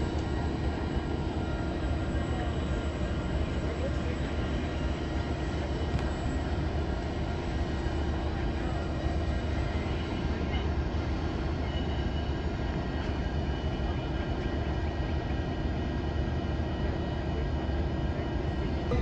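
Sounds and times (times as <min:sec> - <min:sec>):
diesel locomotives rumbling: 0:00.0 - 0:19.0.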